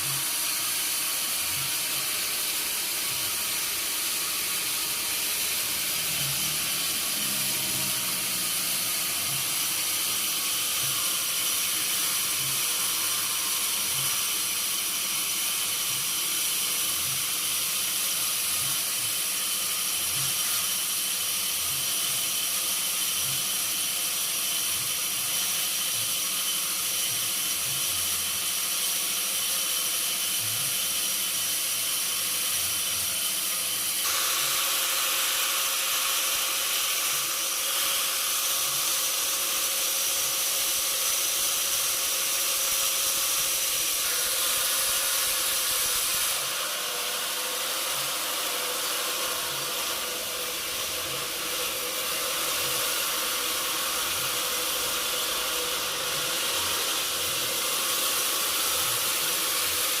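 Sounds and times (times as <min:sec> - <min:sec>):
sawmill saw and machinery: 0:00.0 - 1:00.0.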